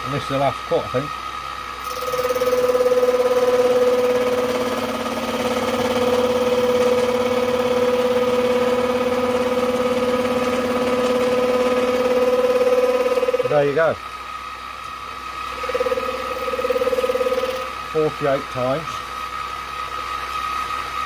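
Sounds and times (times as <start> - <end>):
milling machine whine: 0.0 - 21.0.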